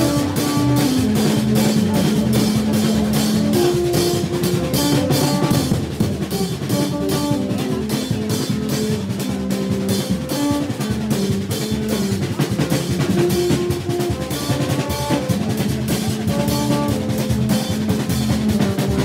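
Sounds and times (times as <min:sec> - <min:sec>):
blown tube horns: 0:00.0 - 0:19.0
drums beating fast rhythm: 0:00.0 - 0:19.0.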